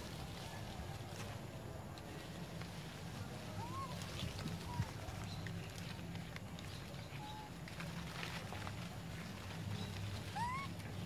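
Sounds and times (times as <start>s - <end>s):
faint rustling and clicks: 0.0s - 11.0s.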